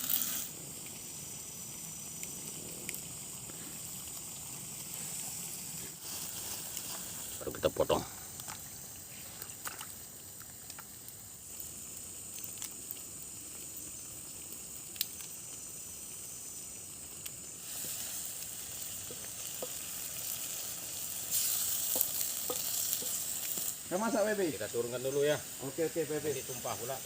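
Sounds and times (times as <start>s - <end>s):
food hissing in a pot: 0.0s - 27.0s.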